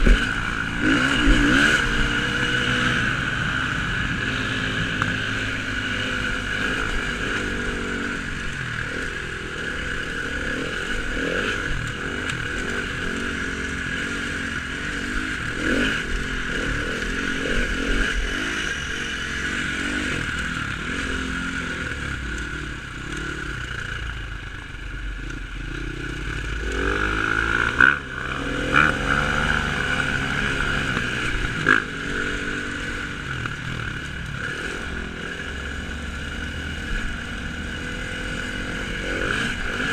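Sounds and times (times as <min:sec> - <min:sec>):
dirt bike engine revving: 0:00.0 - 0:24.4, 0:25.2 - 0:39.9.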